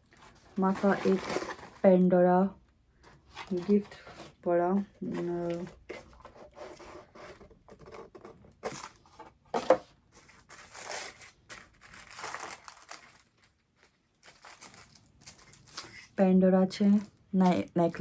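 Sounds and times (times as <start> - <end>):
paper rustling and crinkling: 0.0 - 2.0, 3.0 - 18.0.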